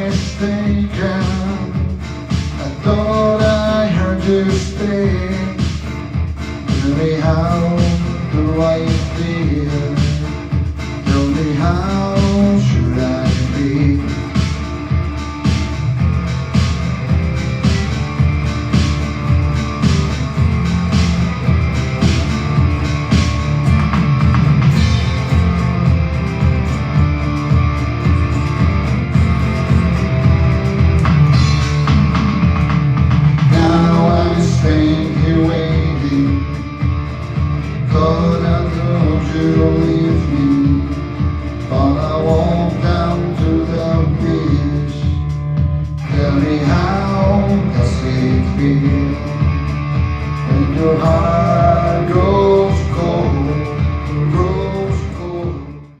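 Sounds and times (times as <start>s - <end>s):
bass-heavy pulsing beat: 0.0s - 56.0s.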